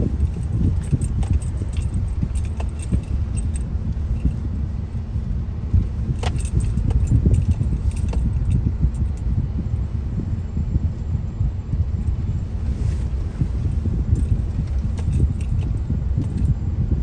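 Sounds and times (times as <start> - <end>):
loose items rattling in car: 0.0 - 10.8, 11.7 - 16.6
road and engine rumble: 0.0 - 17.0.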